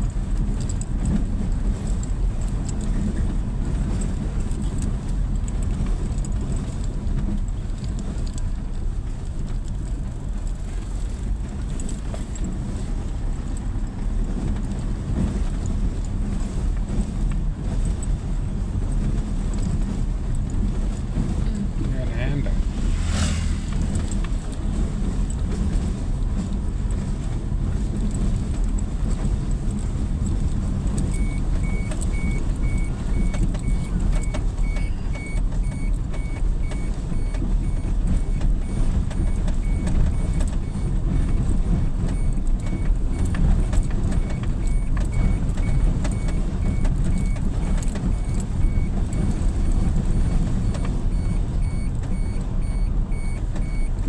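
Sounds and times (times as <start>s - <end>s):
small rattles and knocks: 0.0s - 54.0s
vehicle engine and road rumble: 0.0s - 54.0s.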